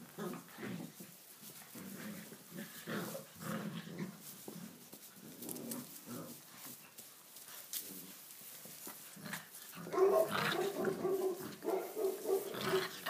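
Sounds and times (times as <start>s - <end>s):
puppies growling: 0.0s - 6.9s, 7.9s - 13.0s.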